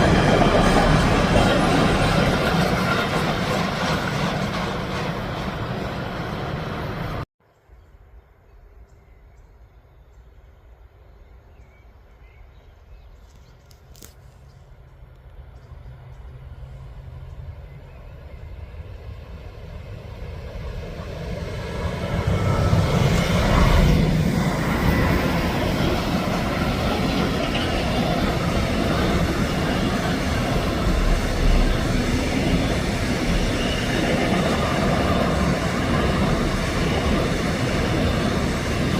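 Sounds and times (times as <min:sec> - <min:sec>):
passing train rushing: 0:00.0 - 0:07.3, 0:14.0 - 0:38.9.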